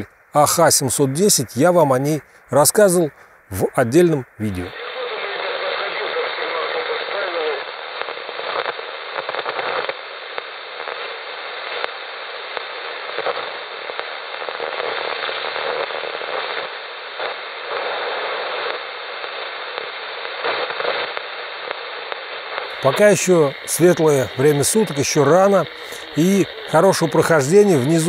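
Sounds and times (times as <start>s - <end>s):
radio static hiss with crackles: 0.0s - 28.0s.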